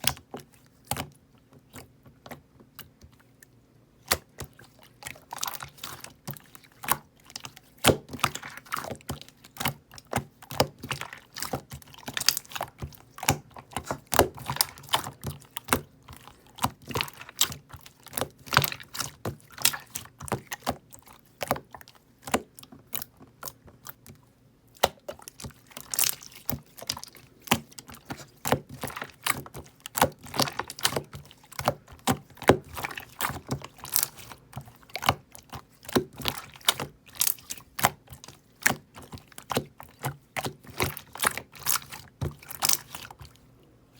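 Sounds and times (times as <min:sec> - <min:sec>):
hands squishing slime: 0:00.0 - 0:43.6.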